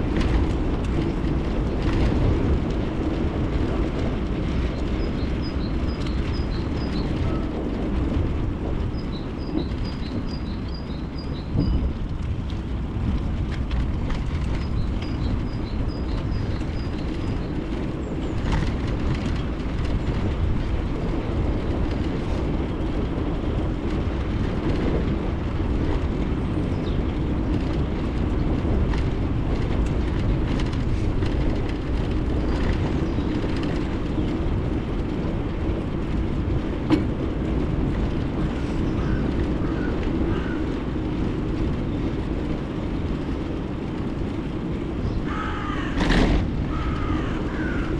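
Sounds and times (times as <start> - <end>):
bicycle tyre noise on road: 0.0 - 47.9
wind on microphone: 0.0 - 47.9.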